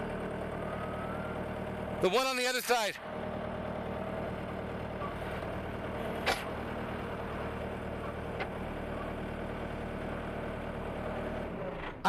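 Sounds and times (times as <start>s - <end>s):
skid steer engine idling: 0.0s - 12.0s.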